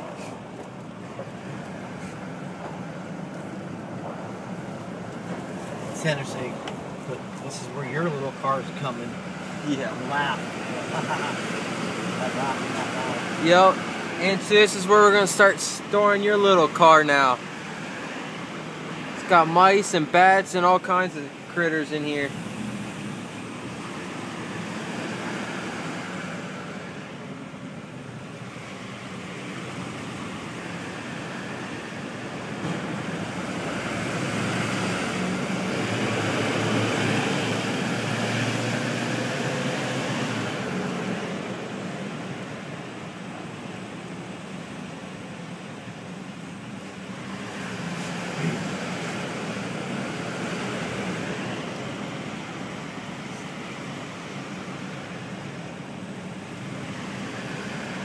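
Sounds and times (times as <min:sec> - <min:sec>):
vehicle engine and tyre noise: 0:00.0 - 0:58.0.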